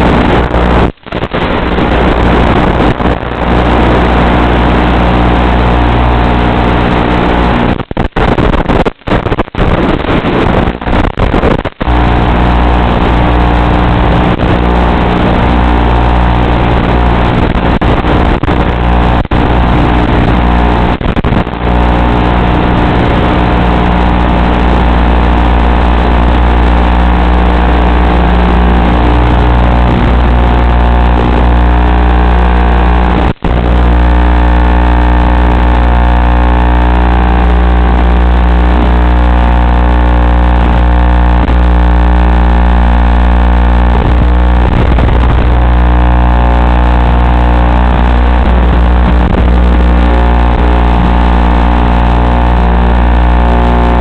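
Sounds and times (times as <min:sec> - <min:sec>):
electric motor and propeller buzz: 0:01.4 - 0:07.8, 0:11.8 - 0:54.0.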